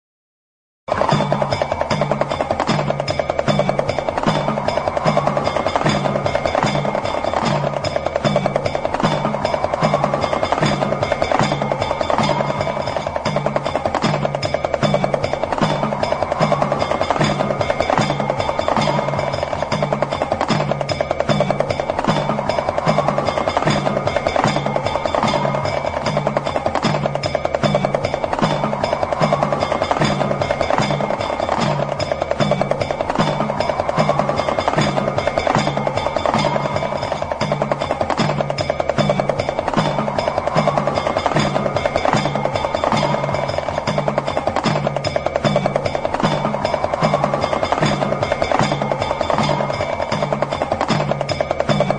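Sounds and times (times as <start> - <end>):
hand drum ticking rattle: 0.9 - 51.9
steady ringing tones: 0.9 - 51.9.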